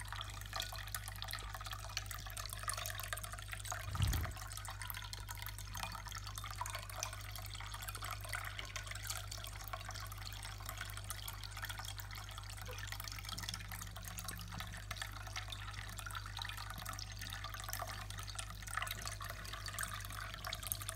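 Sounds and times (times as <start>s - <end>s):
low pump hum: 0.0s - 20.9s
water trickling and dripping: 0.0s - 20.9s.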